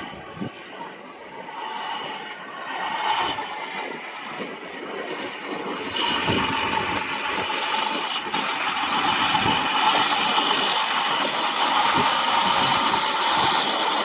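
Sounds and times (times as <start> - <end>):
jet engine whine and rush: 0.0 - 14.0.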